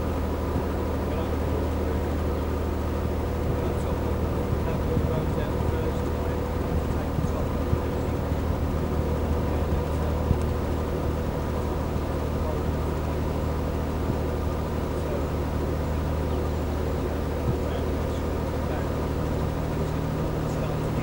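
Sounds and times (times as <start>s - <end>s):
boat engine running steadily: 0.0s - 21.0s.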